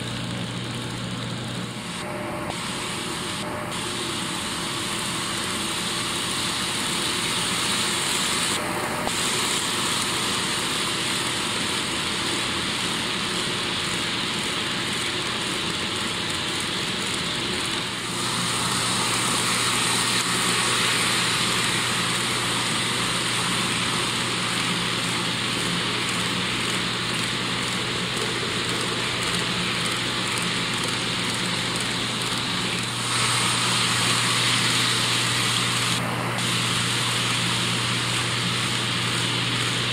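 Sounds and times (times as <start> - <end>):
model train motors whirring: 3.0 - 39.9.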